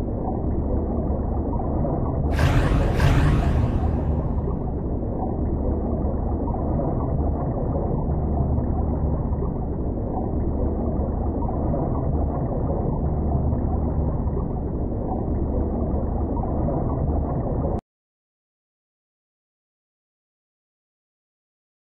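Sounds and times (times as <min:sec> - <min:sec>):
muffled underwater rumble: 0:00.0 - 0:17.8.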